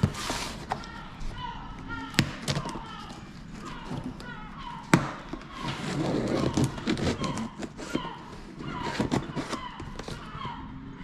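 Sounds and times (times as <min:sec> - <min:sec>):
packaging rustling and crackling: 0:00.0 - 0:01.4, 0:02.1 - 0:10.4.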